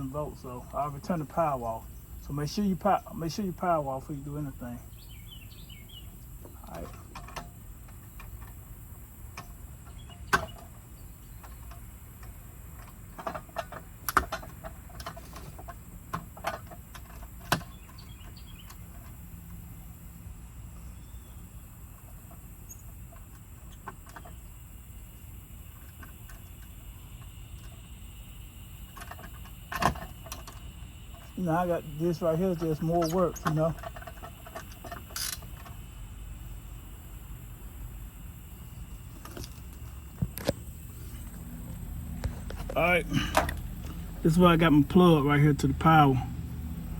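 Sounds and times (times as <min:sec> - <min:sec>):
outdoor background: 0:00.0 - 0:46.9.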